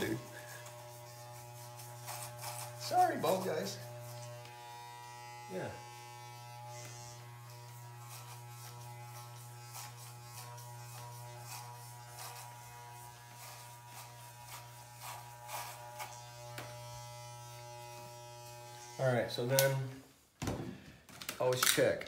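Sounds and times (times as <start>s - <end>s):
electric hair clippers running: 0.0s - 19.7s
clippers rasping through hair: 0.0s - 19.8s.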